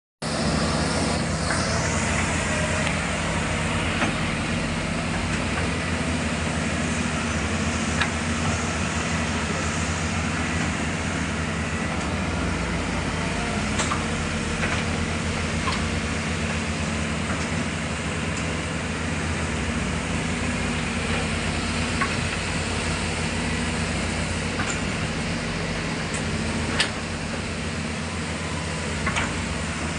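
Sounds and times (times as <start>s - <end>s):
excavator diesel engine running: 0.2s - 29.9s.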